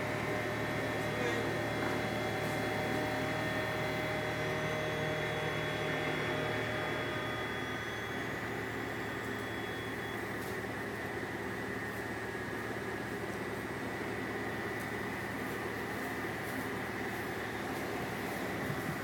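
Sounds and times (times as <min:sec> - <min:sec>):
crane engine rumbling: 0:00.0 - 0:19.0.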